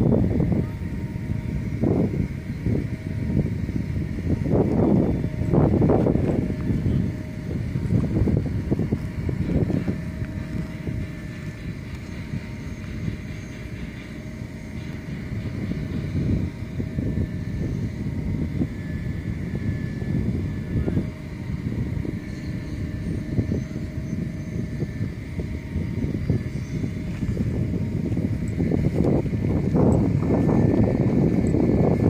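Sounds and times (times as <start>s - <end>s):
faint steady machine tones: 0.0s - 32.0s
pumpjack rumbling: 0.0s - 32.0s
wind buffeting microphone: 0.0s - 32.0s.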